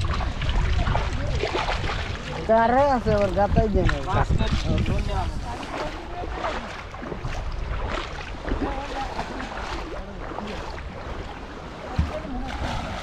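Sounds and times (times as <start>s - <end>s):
water splashing around boat: 0.0s - 13.0s.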